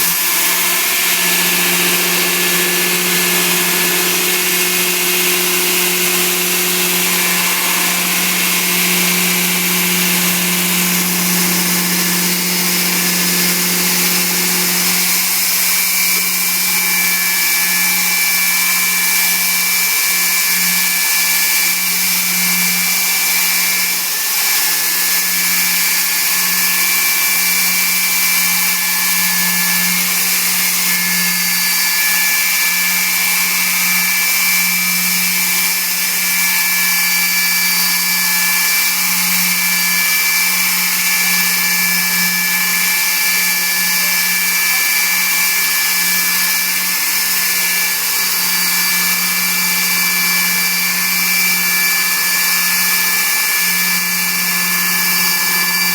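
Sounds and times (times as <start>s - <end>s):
core drill motor running: 0.0s - 55.9s.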